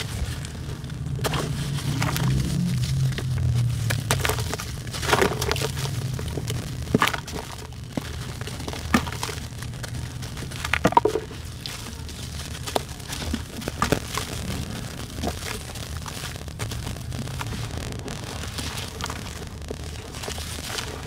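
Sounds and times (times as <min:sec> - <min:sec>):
wet sand crushed by hand: 0:00.0 - 0:21.0.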